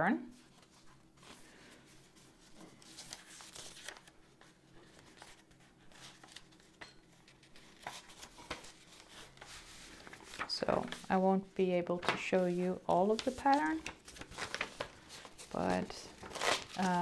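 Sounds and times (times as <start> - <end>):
paper rustling and crinkling: 0.4 - 11.2, 11.9 - 17.0.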